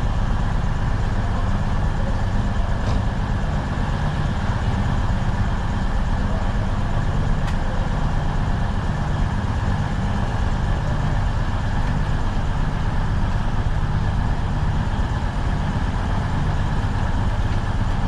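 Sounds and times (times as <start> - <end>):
diesel train engine idling: 0.0 - 18.0.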